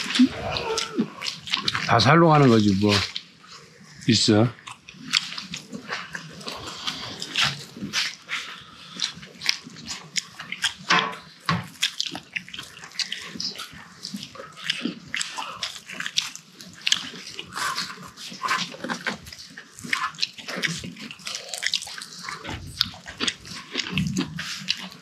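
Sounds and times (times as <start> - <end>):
people chewing and lip smacking: 0.0 - 25.0.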